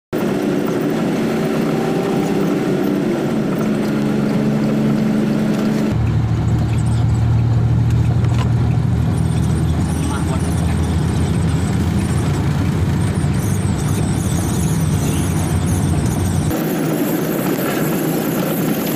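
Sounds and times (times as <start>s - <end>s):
truck engine drone in cab: 0.2s - 18.9s.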